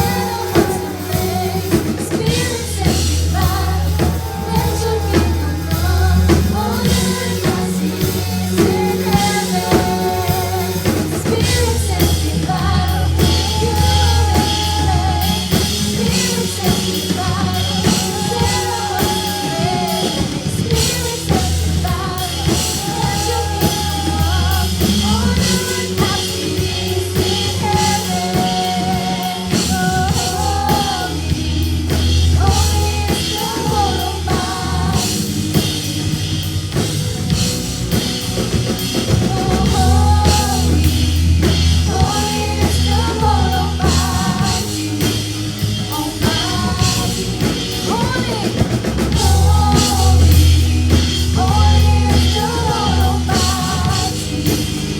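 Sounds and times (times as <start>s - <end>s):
lead vocals singing: 0.0s - 54.9s
worship band playing: 0.0s - 54.9s.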